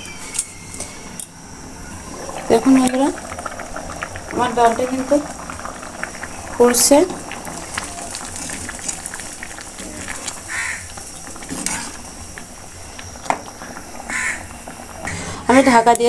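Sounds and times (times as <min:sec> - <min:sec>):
dal bubbling and popping: 0:01.9 - 0:16.0.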